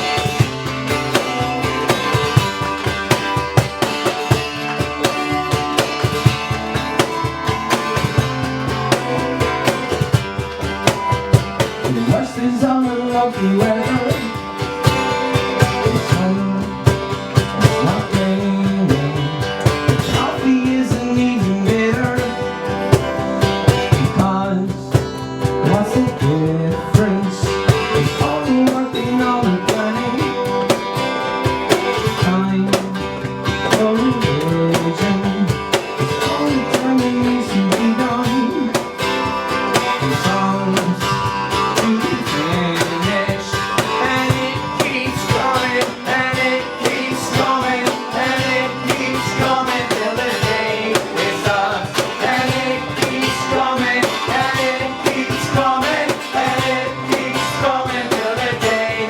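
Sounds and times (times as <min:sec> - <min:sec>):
live band with guitar: 0:00.0 - 0:59.0.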